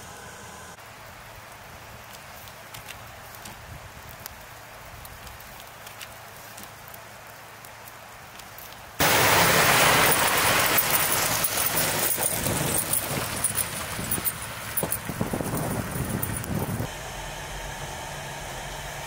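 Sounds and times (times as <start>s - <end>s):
low steady hiss: 0.0s - 15.5s
trucks passing on highway: 0.0s - 19.0s.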